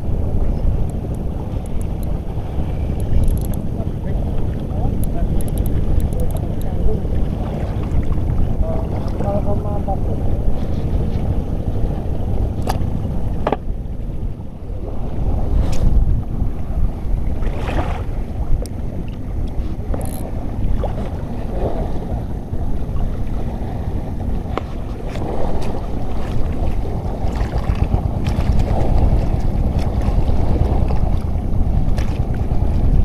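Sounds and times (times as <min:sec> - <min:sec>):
choppy sea water: 0:00.0 - 0:33.0
wind buffeting microphone: 0:00.0 - 0:33.0.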